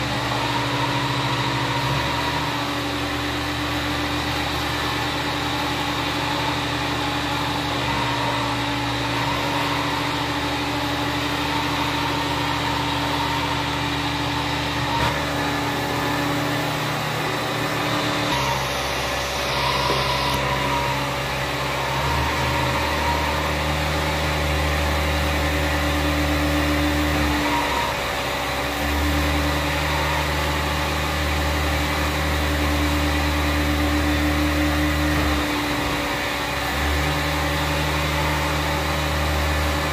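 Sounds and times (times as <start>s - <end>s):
carpet extractor vacuum motor: 0.0s - 39.9s.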